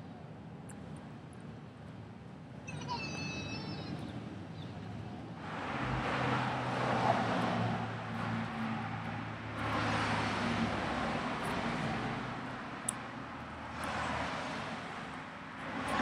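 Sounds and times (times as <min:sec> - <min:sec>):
tyre noise of passing traffic: 0:00.0 - 0:16.0.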